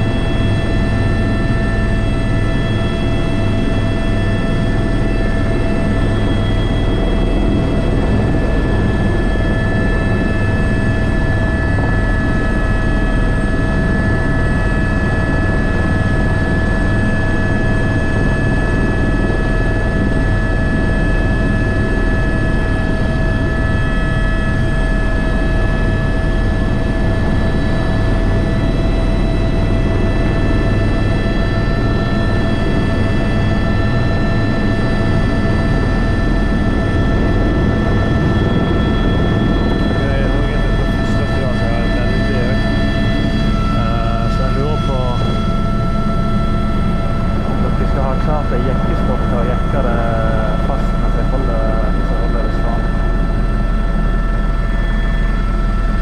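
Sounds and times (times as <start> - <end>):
helicopter rotor beat: 0.0 - 56.0
helicopter turbine whine: 0.0 - 56.0.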